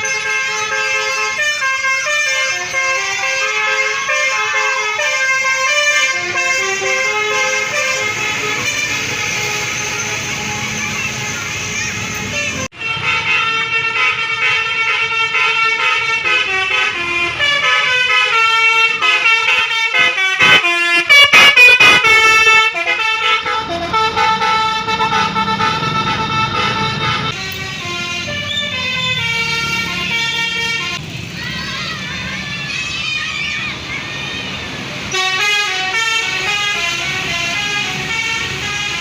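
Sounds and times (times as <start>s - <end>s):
bus air horn playing a tune: 0.0s - 31.0s, 35.1s - 39.0s
bus engine rumbling: 0.0s - 39.0s.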